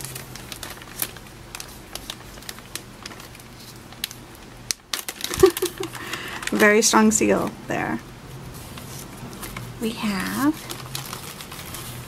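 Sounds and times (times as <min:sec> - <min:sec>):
plastic bag rustling: 0:00.0 - 0:07.5, 0:08.4 - 0:12.0.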